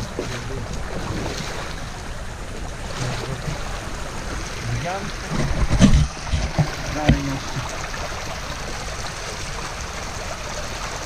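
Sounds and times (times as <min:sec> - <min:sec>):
stream water rushing: 0:00.0 - 0:11.0
water splashing around wading person: 0:00.0 - 0:11.0.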